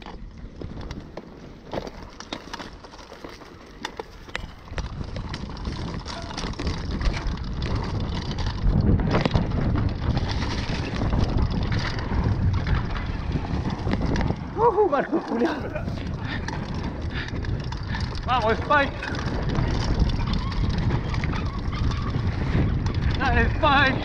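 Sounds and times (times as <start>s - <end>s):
bike rattling: 0.0s - 24.0s
tyres crackling over dirt and stones: 0.0s - 24.0s
wind rushing over microphone: 4.2s - 24.0s.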